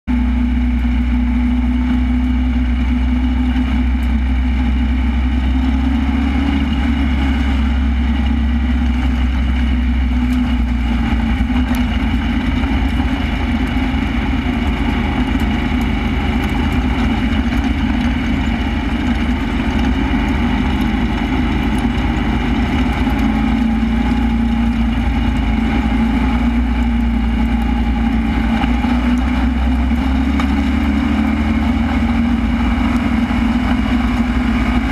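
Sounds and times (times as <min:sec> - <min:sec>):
race car engine running steadily: 0:00.0 - 0:34.9.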